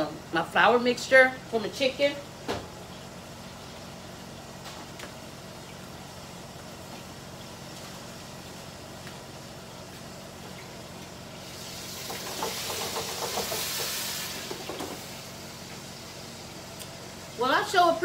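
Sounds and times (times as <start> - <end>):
chicken sizzling in hot oil: 1.7 - 18.0.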